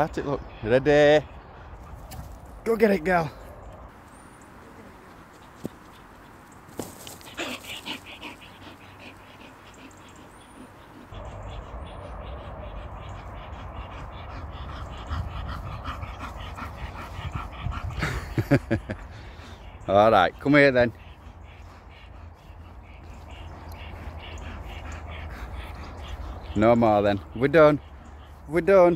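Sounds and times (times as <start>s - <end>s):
dog panting: 4.6s - 28.9s.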